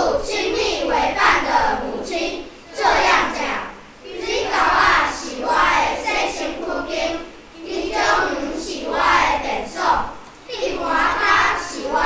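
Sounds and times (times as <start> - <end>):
children reciting in unison: 0.0 - 12.0.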